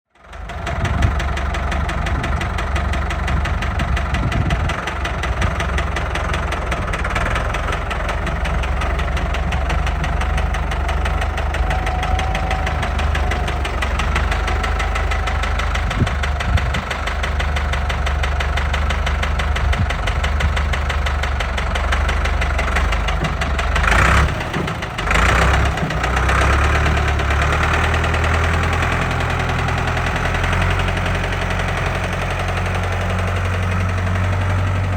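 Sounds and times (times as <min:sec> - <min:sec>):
tractor diesel engine idling: 0:00.1 - 0:34.9.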